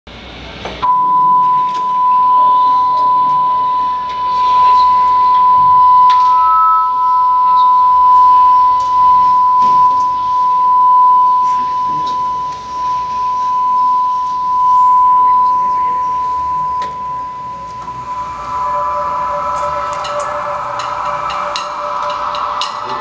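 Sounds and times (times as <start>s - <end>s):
loud high beep tone: 0.8s - 23.0s
second higher tone: 0.8s - 23.0s.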